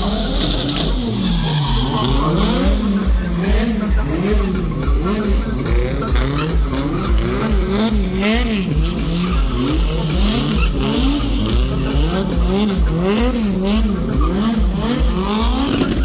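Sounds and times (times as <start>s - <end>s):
car engines revving: 0.0s - 16.0s
tyres screeching: 0.2s - 16.0s.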